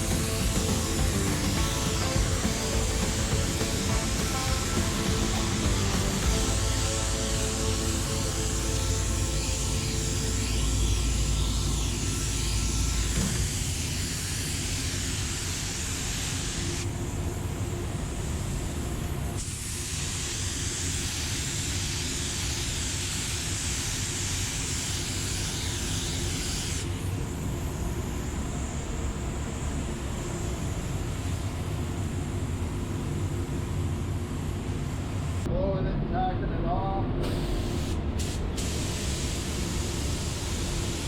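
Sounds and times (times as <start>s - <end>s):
compressed air hissing: 0.0s - 35.4s, 37.2s - 41.0s.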